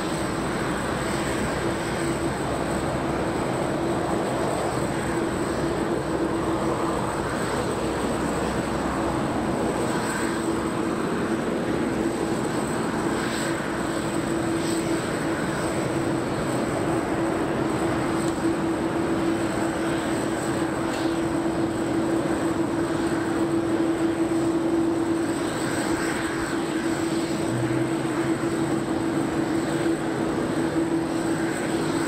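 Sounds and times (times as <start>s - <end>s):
jet aircraft roar: 0.0s - 32.0s.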